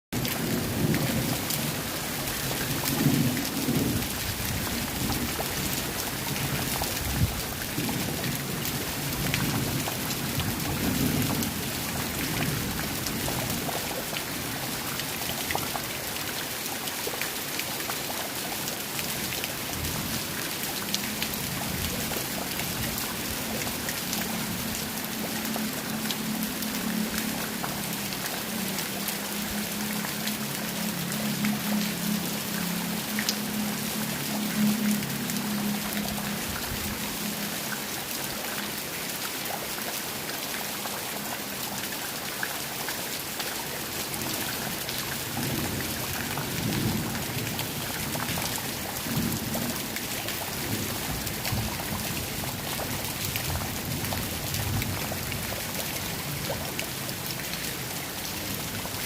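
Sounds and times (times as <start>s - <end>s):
heavy rain falling: 0.2s - 59.0s.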